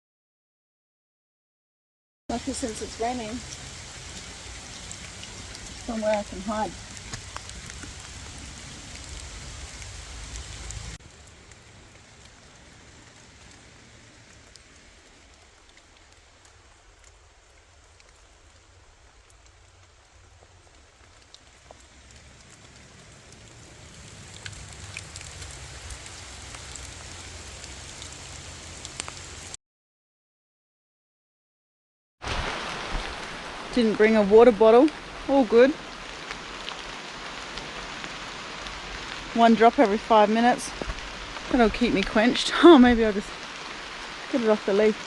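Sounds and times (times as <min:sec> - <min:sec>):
steady rain falling: 0:02.3 - 0:29.6, 0:32.2 - 0:45.0
water drips ticking: 0:02.3 - 0:29.6, 0:32.4 - 0:45.0.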